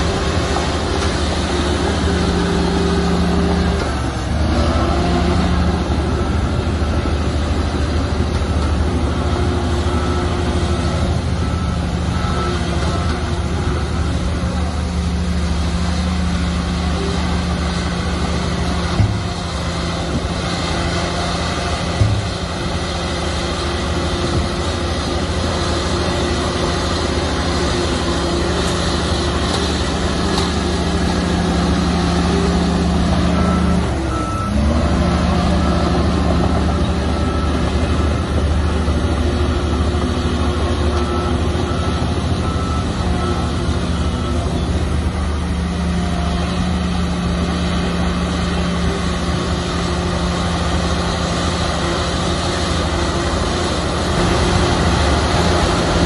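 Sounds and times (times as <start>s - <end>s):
heavy diesel engine running: 0.0s - 56.0s
reversing alarm beeping: 0.0s - 56.0s.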